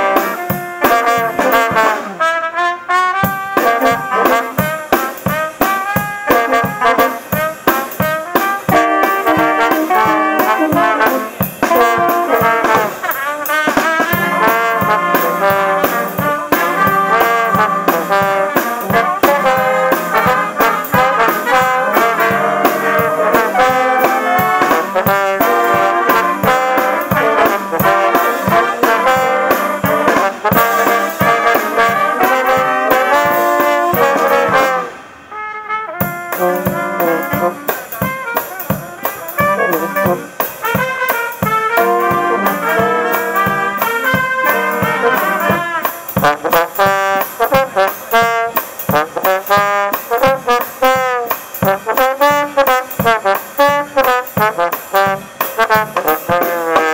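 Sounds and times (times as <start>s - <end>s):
steady drum beat: 0.0s - 2.3s, 3.2s - 35.0s, 36.0s - 56.9s
brass band playing: 0.0s - 56.9s.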